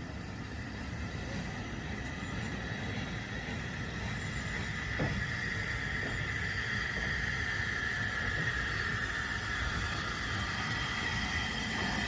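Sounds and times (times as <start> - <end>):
steady high hiss: 0.0 - 12.0
steam locomotive rumble: 0.0 - 12.0.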